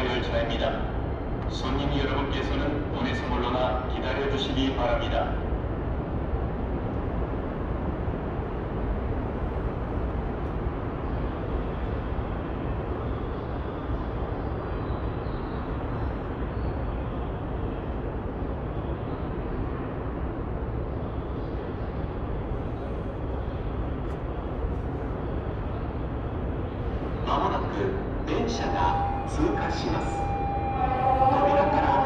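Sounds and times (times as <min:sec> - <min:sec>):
low rumble of station ambience: 0:00.0 - 0:32.0.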